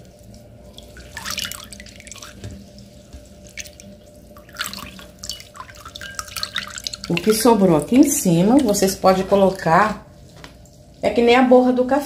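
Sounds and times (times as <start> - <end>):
liquid dripping and trickling: 0.0 - 9.6, 10.5 - 10.9.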